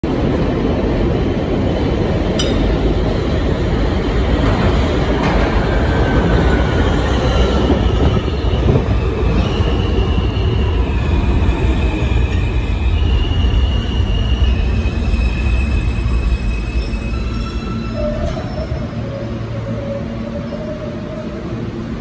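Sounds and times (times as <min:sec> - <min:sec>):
subway train rumbling over rails: 0:00.0 - 0:22.0.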